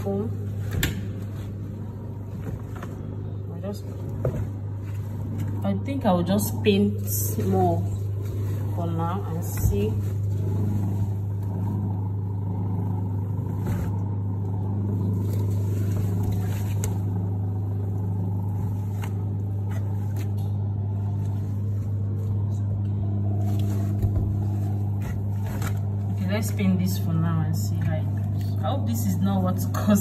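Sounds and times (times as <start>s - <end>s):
washing machine motor hum: 0.0s - 30.0s.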